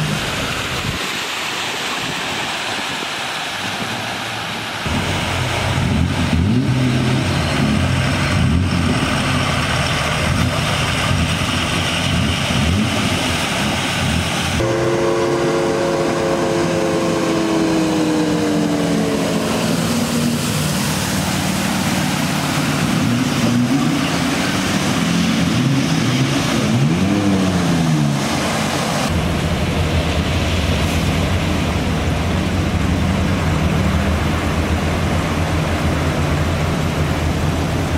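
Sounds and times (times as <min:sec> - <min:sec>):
water splashing: 0:00.0 - 0:37.9
vehicle engines running: 0:04.8 - 0:37.9
passing vehicle engine: 0:04.9 - 0:37.9.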